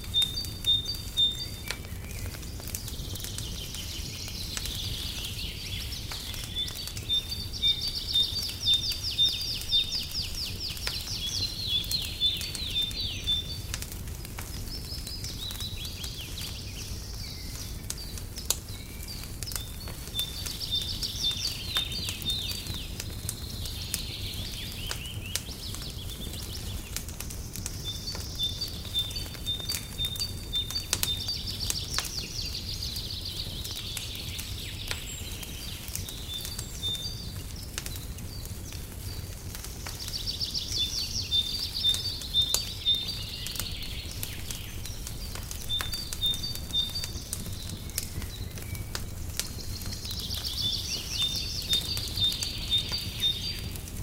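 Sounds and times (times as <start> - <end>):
songbirds trilling: 0.0 - 54.0
wood fire crackling: 0.0 - 54.0.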